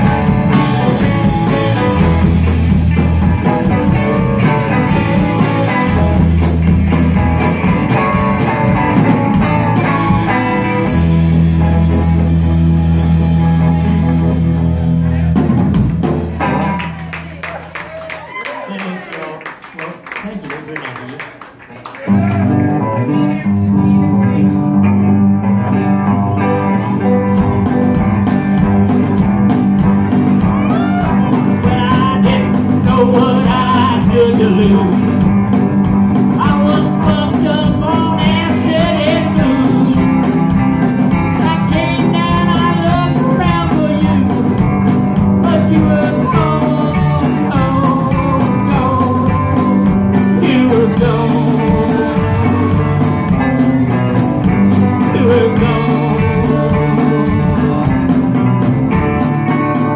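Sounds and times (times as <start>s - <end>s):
drums and cymbals: 0.0s - 16.8s, 27.3s - 59.9s
electric guitars and bass: 0.0s - 18.7s, 22.1s - 59.9s.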